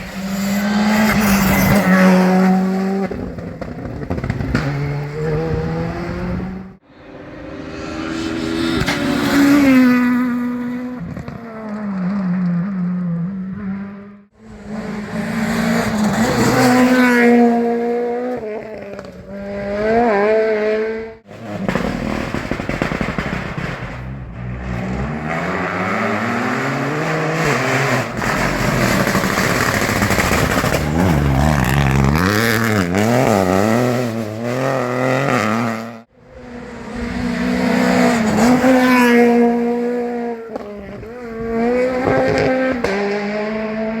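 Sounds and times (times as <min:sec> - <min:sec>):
rally car engines revving hard: 0:00.0 - 0:44.0.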